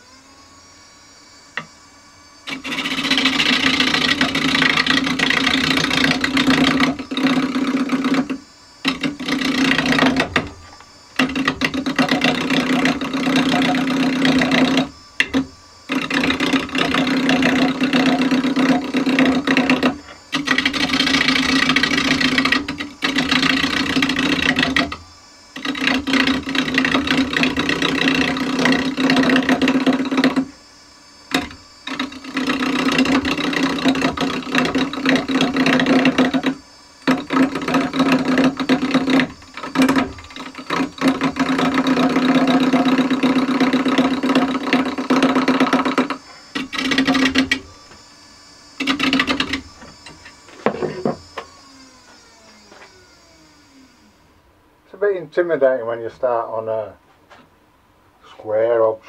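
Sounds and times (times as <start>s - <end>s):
lathe humming: 0.0s - 57.4s
chisel cutting spinning wood: 1.4s - 54.3s.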